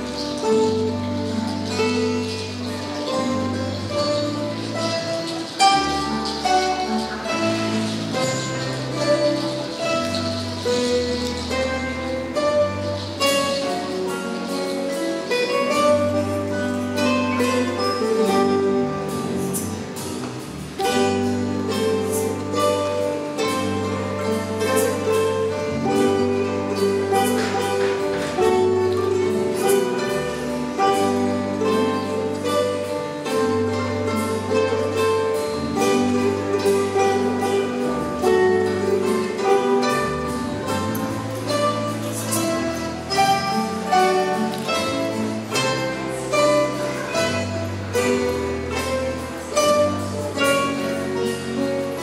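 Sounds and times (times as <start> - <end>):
acoustic guitars playing: 0.0 - 52.0.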